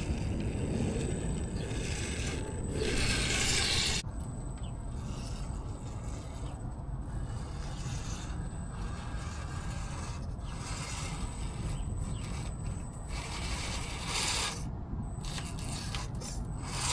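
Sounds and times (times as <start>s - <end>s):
steady low rumble: 0.0s - 16.9s
toy car motor grinding: 0.0s - 16.9s.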